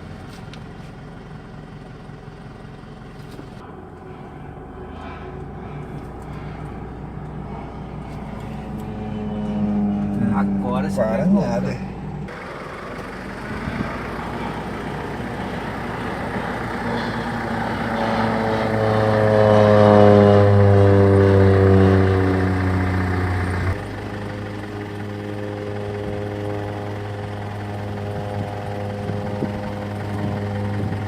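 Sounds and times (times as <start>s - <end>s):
propeller airplane passing low: 0.0s - 31.0s.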